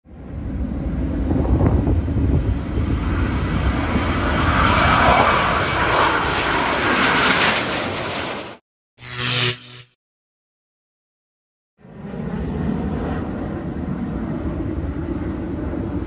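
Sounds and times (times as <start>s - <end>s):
jets flying low overhead: 0.1s - 9.8s, 11.8s - 16.0s.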